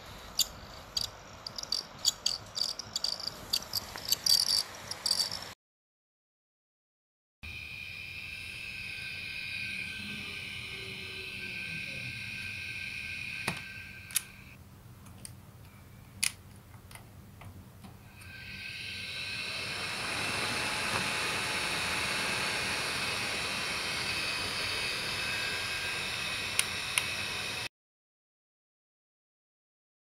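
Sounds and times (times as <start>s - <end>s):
laptop fan whining: 0.0s - 5.5s, 7.5s - 27.7s.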